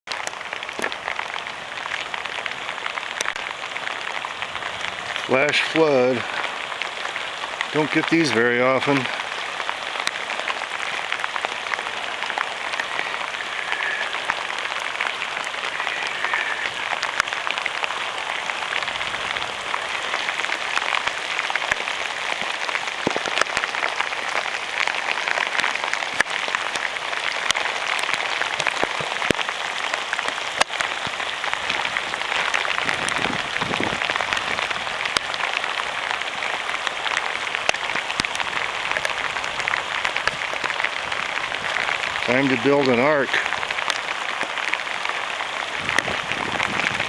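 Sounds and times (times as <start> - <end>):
rain falling: 0.0 - 47.0
water rushing over ground: 0.0 - 47.0.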